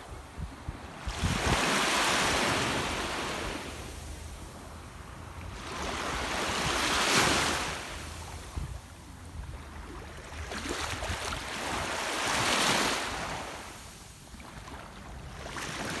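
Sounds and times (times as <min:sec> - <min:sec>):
waves washing on sandy beach: 0:00.0 - 0:16.0.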